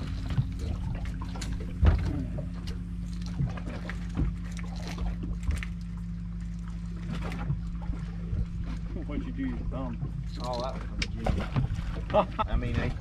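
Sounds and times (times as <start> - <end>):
boat machinery humming: 0.0 - 13.0.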